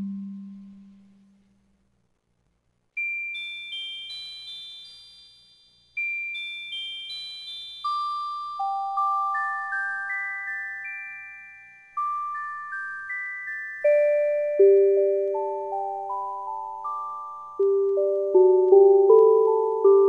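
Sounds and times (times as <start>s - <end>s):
music-box melody: 3.0s - 20.0s.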